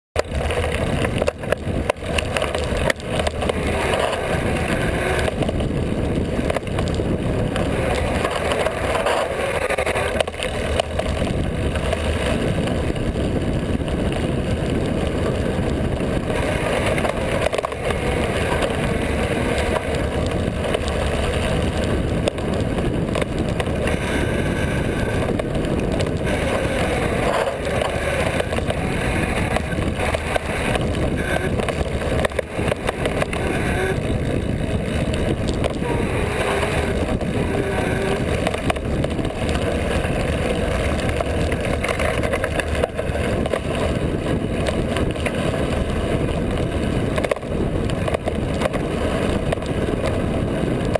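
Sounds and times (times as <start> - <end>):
bike rattling over bumps: 0.2 - 50.9
bike tyres rolling on dirt: 0.2 - 50.9.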